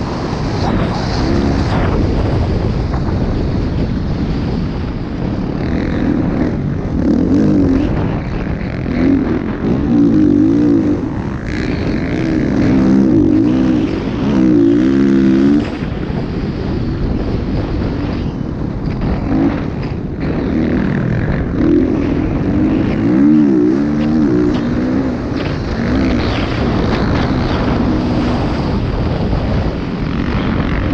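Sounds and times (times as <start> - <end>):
motocross bike engines revving: 0.0 - 30.9.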